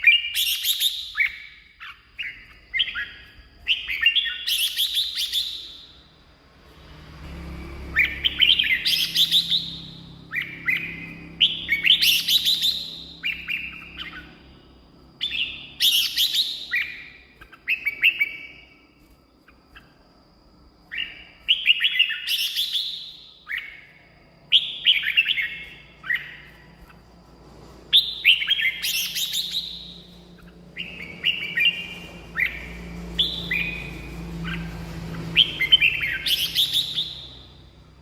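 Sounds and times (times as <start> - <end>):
bird singing warbling whistles: 0.0 - 6.2, 7.3 - 20.0, 20.9 - 27.0, 27.9 - 37.9.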